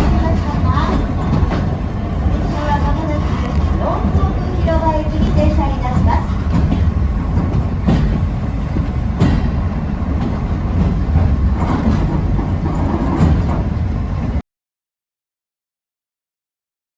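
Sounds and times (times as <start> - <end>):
wheels clicking over rail joints: 0.0 - 13.9
train wheels rumbling on rails: 0.0 - 14.4.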